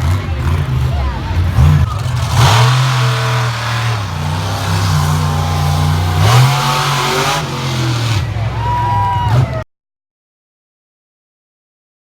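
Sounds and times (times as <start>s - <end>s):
monster truck engine revving: 0.0s - 9.6s.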